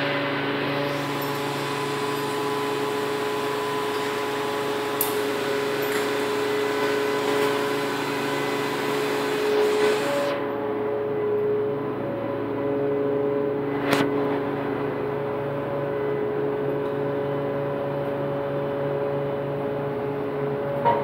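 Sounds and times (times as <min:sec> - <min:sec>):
crane mechanical hum: 0:00.0 - 0:21.0.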